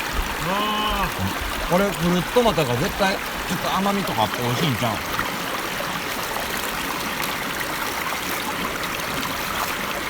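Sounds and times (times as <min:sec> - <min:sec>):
stream flowing: 0:00.0 - 0:10.0.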